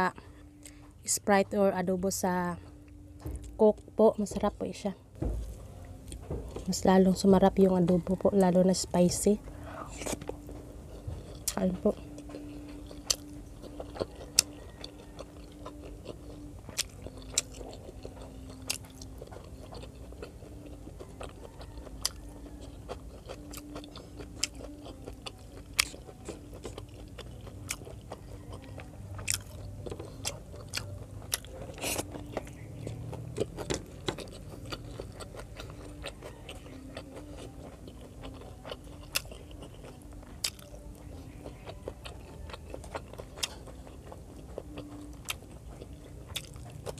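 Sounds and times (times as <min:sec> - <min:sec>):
chewing food: 0:00.0 - 0:46.9
faint steady hum: 0:00.0 - 0:46.9.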